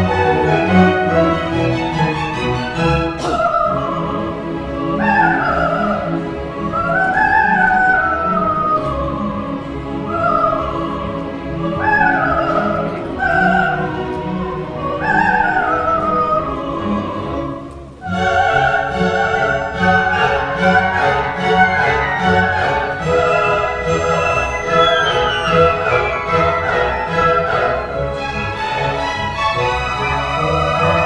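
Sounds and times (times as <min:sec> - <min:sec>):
orchestra playing: 0:00.0 - 0:31.0
soprano singing wordless vocalise: 0:00.0 - 0:31.0.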